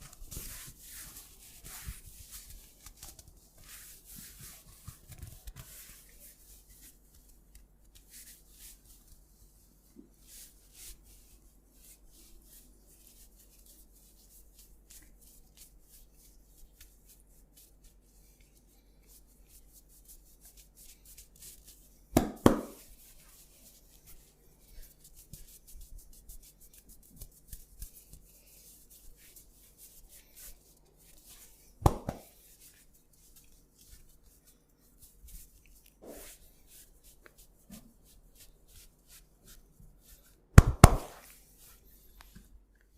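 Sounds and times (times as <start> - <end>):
hands rubbing hair and skin: 0.0 - 42.9.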